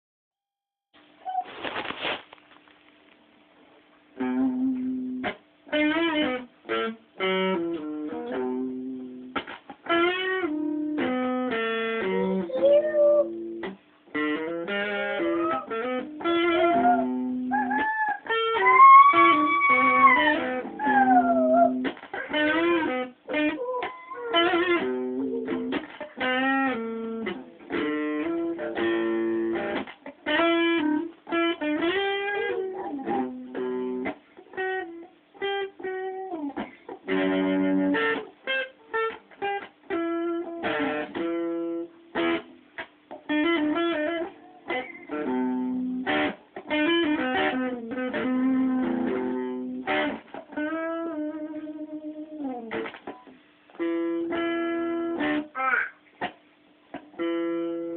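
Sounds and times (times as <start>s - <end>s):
solo blues guitar: 4.1s - 57.9s.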